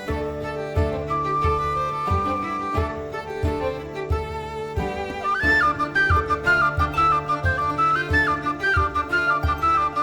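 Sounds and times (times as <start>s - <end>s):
bowed string melody: 0.0s - 10.0s.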